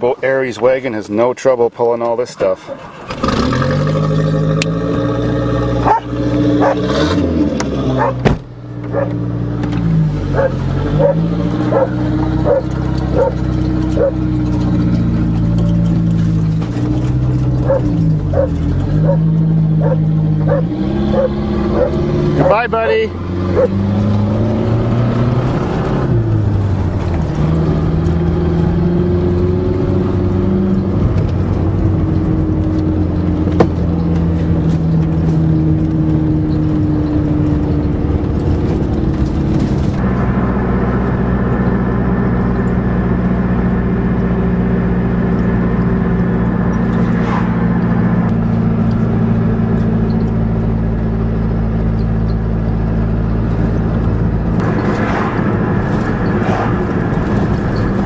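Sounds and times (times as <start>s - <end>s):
car engine driving: 0.0s - 58.0s
road noise: 0.0s - 58.0s.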